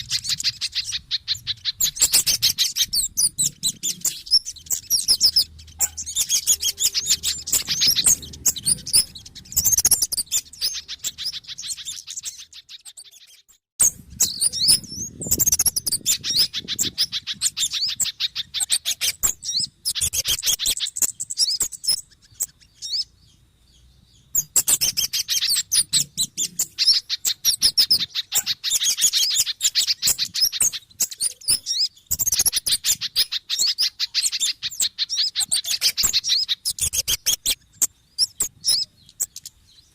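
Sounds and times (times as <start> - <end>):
small birds chattering and trilling: 0.0 - 39.9.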